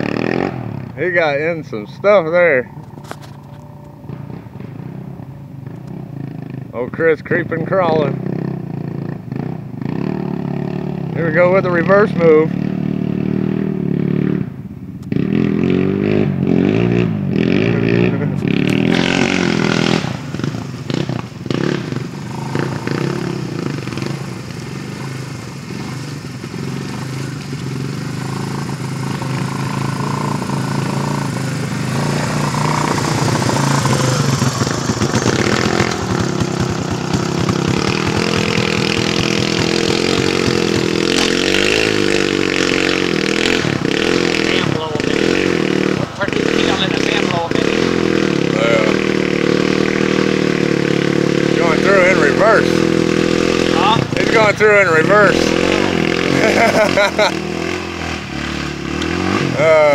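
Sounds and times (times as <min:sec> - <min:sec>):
quad engines revving: 0:00.0 - 0:59.9.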